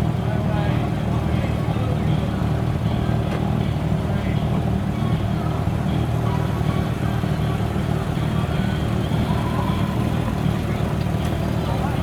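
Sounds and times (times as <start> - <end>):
car engine idling: 0.0 - 12.0
faint voices: 0.1 - 12.0.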